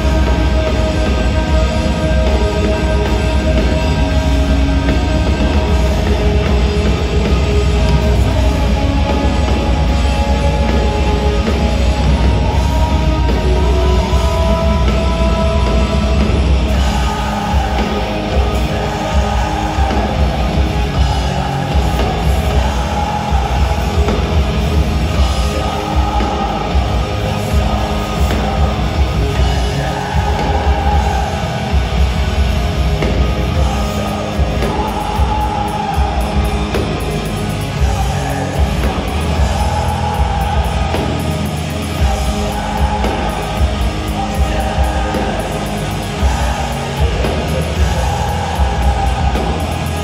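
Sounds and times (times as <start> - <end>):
live metal band playing: 0.0 - 50.0.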